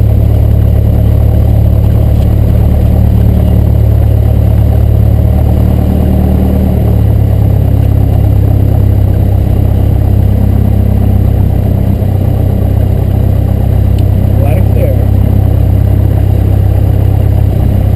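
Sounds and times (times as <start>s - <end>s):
propeller plane engine running: 0.0s - 17.9s.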